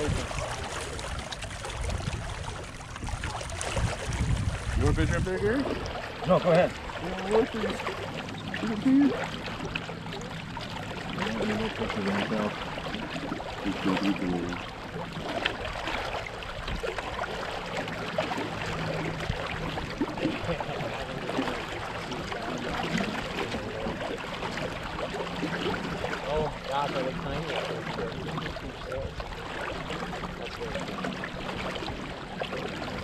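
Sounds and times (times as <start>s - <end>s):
water rushing along boat hull: 0.0s - 33.0s.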